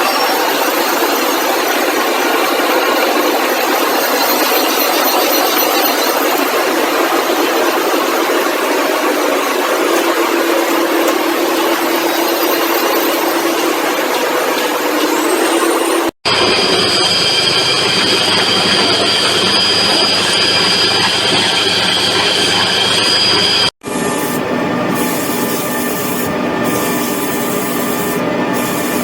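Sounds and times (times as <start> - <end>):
metal lathe turning steel: 0.0 - 29.0.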